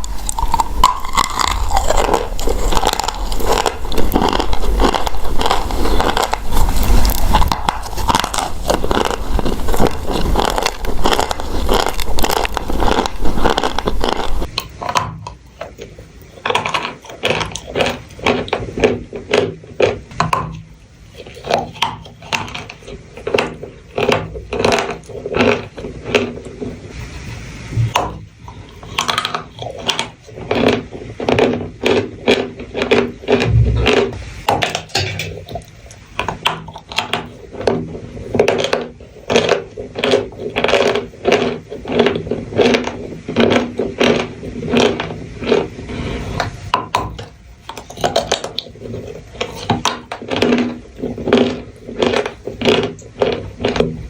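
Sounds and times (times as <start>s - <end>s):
chalky material crunching while chewed: 0.0s - 54.0s.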